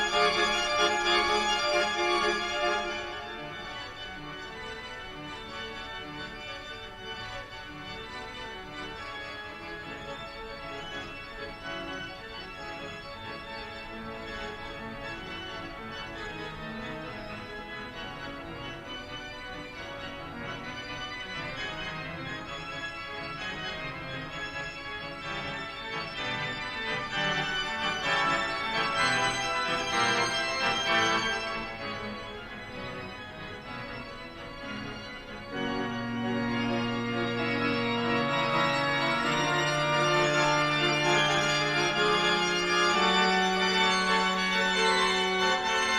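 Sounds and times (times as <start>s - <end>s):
organ music: 0.0s - 45.9s.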